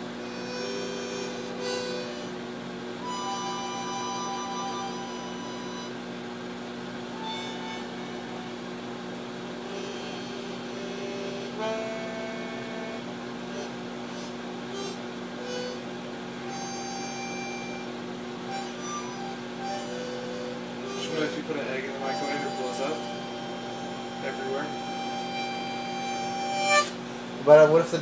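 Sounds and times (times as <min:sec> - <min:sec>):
held harmonica-like notes: 0:00.0 - 0:02.4, 0:03.0 - 0:06.1, 0:07.1 - 0:08.7, 0:09.6 - 0:27.0
low electrical hum: 0:00.0 - 0:28.0.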